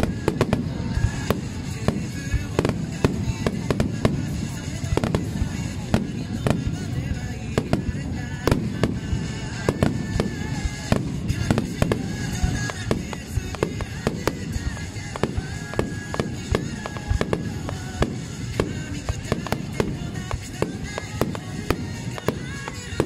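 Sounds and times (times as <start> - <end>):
firework shells bursting: 0.0 - 23.0
music playing: 0.0 - 23.0.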